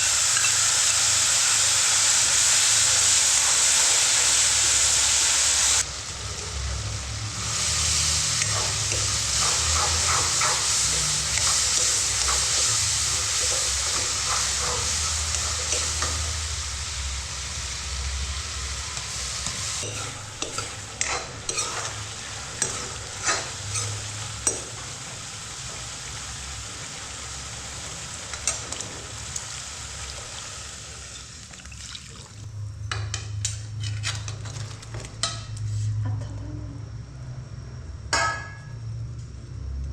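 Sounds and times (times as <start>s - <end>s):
food sizzling in a pan: 0.0s - 32.4s.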